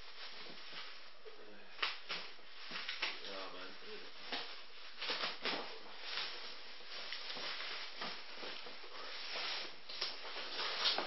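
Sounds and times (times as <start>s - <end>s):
plastic bin bag rustling: 0.0s - 1.2s, 2.0s - 11.0s.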